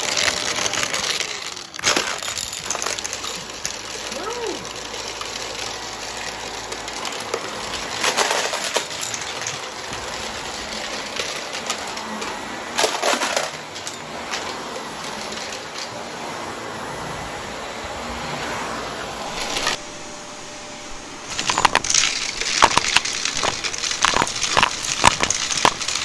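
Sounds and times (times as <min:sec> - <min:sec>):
coins rattling through vacuum: 0:00.0 - 0:16.1, 0:19.3 - 0:26.0
vacuum cleaner running: 0:00.0 - 0:26.0.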